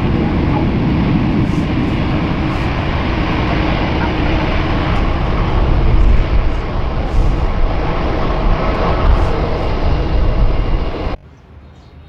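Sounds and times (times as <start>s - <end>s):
jet engines roaring: 0.0s - 11.2s.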